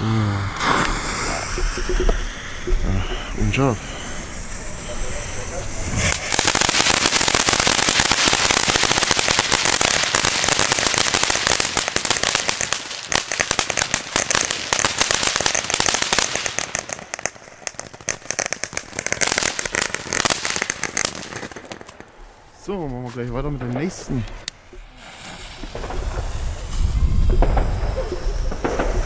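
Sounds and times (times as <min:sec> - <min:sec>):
fireworks crackling: 0:00.0 - 0:29.0.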